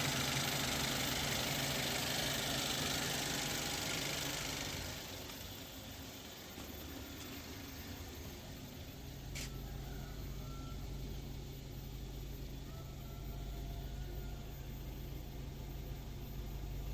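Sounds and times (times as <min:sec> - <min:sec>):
car engine running steadily: 0:00.0 - 0:16.9.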